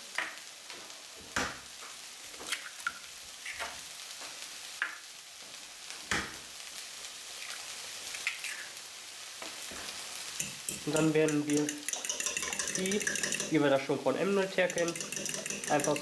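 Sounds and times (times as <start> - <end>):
onions frying in oil: 0.0 - 16.0.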